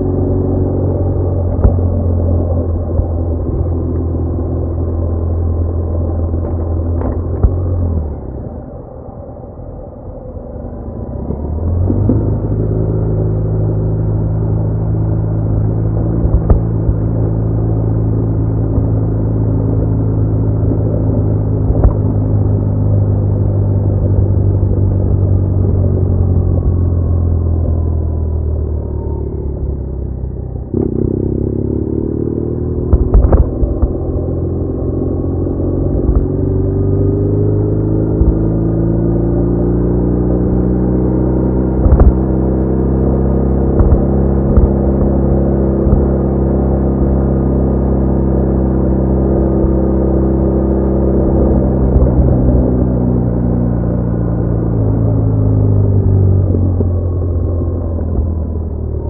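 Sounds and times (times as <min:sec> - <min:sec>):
motorcycle engine accelerating: 0:00.0 - 0:08.8, 0:10.5 - 0:59.0.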